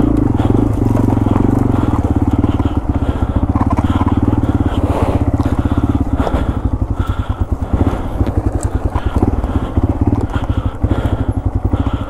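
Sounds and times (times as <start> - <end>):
brush crackling: 0.0 - 11.8
motorcycle engine chugging: 0.0 - 12.0.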